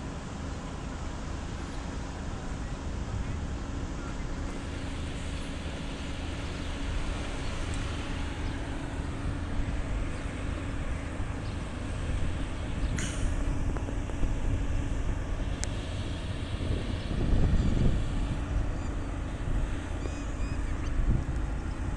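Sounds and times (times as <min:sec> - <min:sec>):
truck engine and road rumble: 0:00.0 - 0:21.9.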